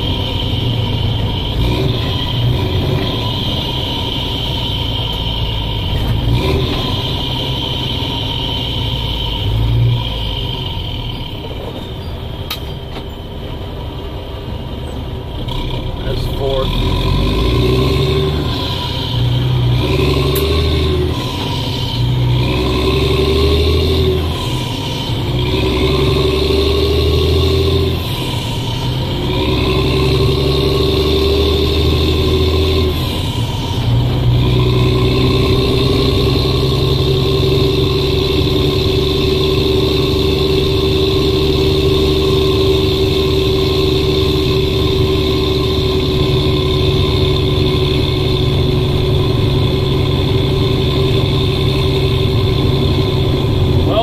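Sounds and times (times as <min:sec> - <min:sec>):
diesel truck engine shifting gears: 0:00.0 - 0:54.0.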